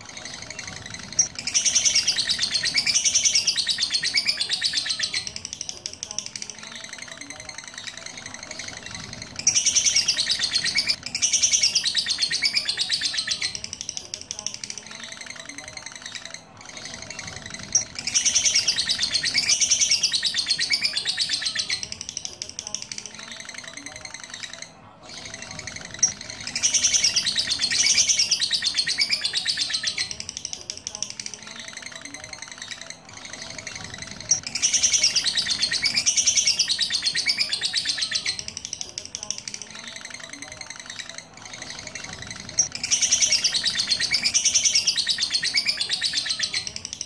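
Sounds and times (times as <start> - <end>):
lovebird chirping: 0.0 - 47.0.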